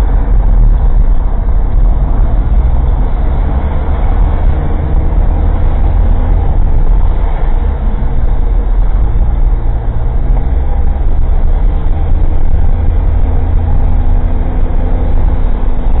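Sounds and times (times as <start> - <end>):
car engine running: 0.0 - 16.0
road noise: 0.0 - 16.0.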